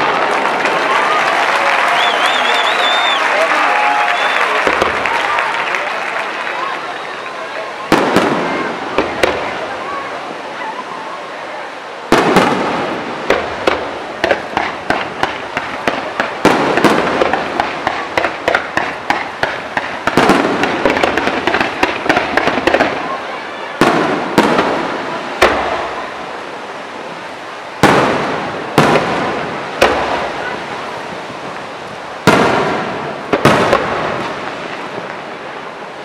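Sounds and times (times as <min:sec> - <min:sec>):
fireworks bursting with bangs: 0:00.0 - 0:01.3, 0:04.2 - 0:05.7, 0:07.8 - 0:10.1, 0:12.1 - 0:36.0
fireworks crackling: 0:00.0 - 0:36.0.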